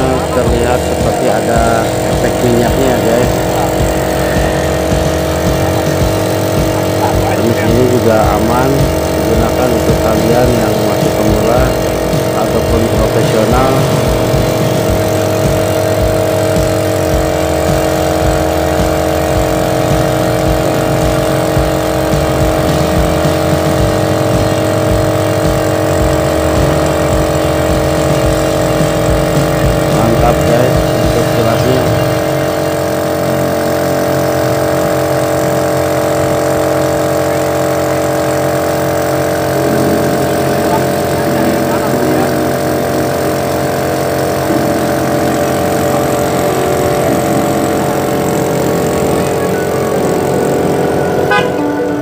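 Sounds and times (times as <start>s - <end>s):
motor idling hum: 0.0s - 52.0s.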